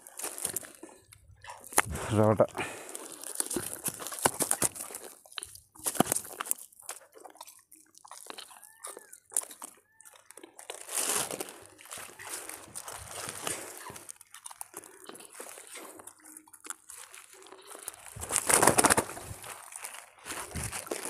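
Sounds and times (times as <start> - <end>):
net and plastic sack rustling: 0.0 - 7.0, 10.7 - 21.0.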